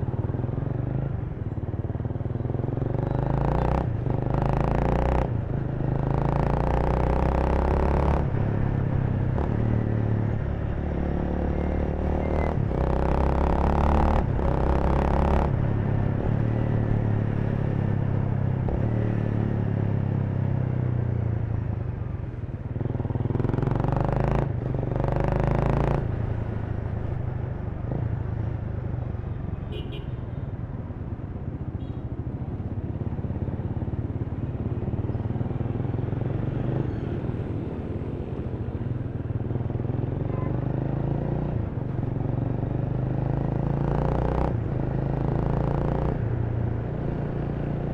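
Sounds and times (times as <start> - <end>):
city traffic: 0.0 - 47.9.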